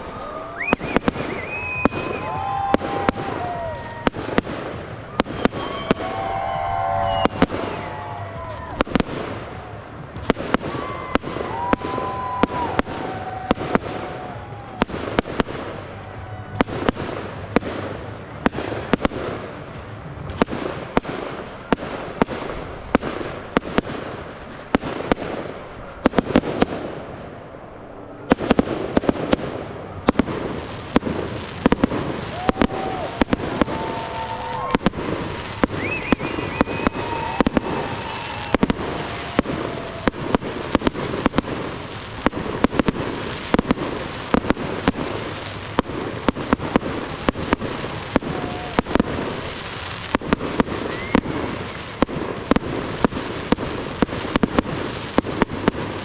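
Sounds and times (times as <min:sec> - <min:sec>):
fireworks bangs: 0:00.0 - 0:56.0
fireworks crackling hiss: 0:00.0 - 0:56.0.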